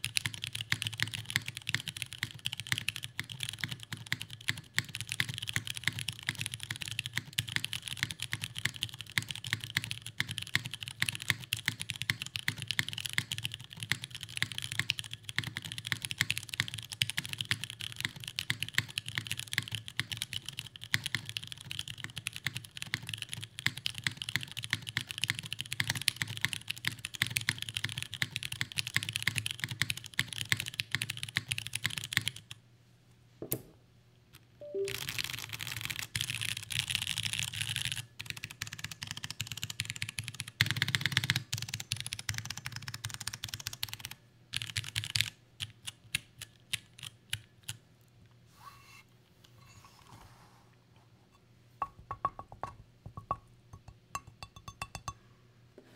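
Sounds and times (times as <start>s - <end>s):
mechanical keyboard typing: 0.0s - 32.6s, 34.6s - 47.8s.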